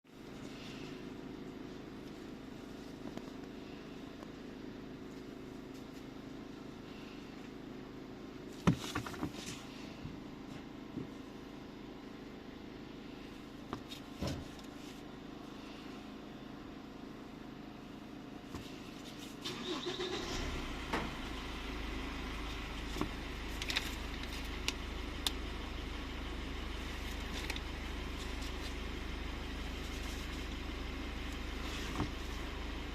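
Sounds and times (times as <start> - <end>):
engine hum: 0.0 - 32.9.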